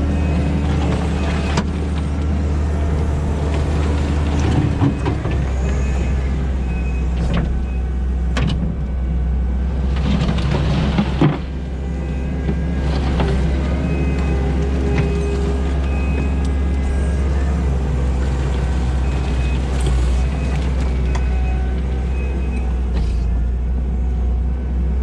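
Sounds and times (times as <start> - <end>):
loader diesel engine running: 0.0 - 25.0.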